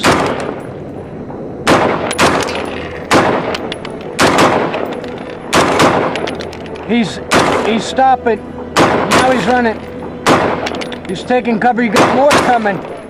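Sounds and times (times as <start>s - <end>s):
rifle shots with ringing echo: 0.0s - 0.9s, 1.6s - 7.9s, 8.8s - 13.0s.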